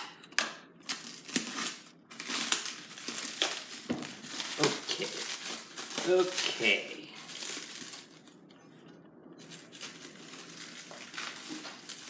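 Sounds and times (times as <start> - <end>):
plastic shrink wrap crinkling: 0.8 - 8.6, 9.4 - 12.0.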